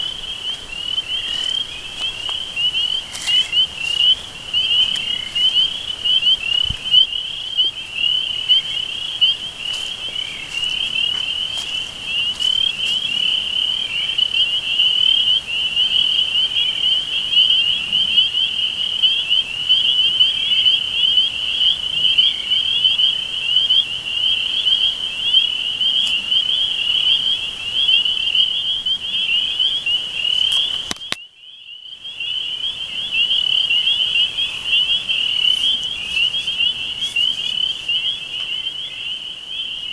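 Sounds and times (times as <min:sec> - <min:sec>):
trilling insects: 0:00.0 - 0:39.9.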